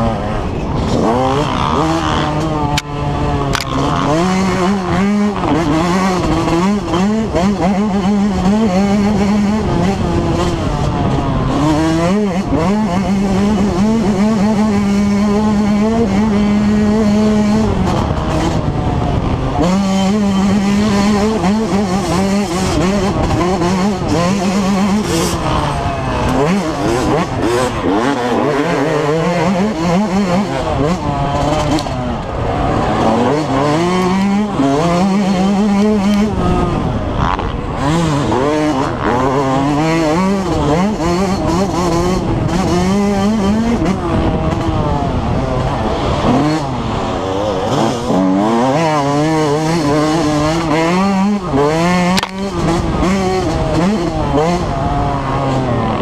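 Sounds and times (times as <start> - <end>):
two-stroke engine revving: 0.0 - 56.0.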